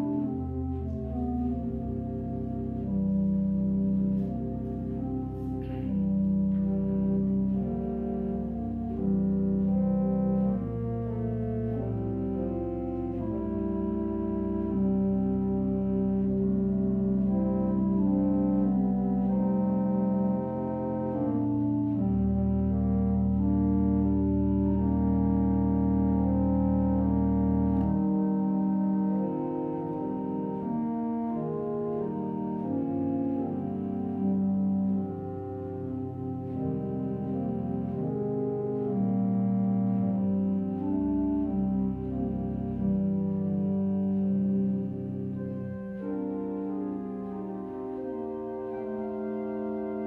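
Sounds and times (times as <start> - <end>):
church organ chords: 0.0 - 50.0.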